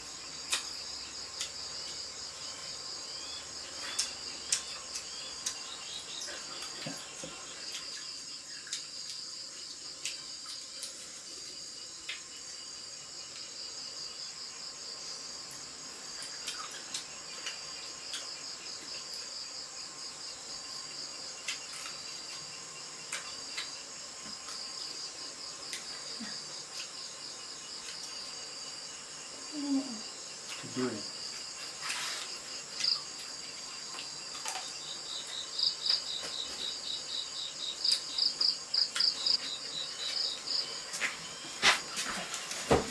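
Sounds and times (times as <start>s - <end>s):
insects chirring: 0.0s - 42.9s.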